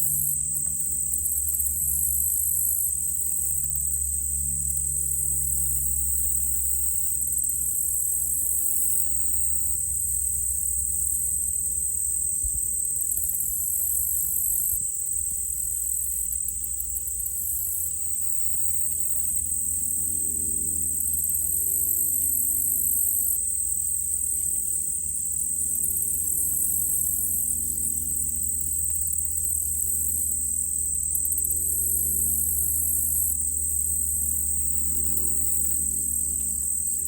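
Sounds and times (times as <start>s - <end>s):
insects high drone: 0.0s - 37.0s
low steady rumble: 0.0s - 37.0s
pulsing insect chirring: 0.0s - 37.0s.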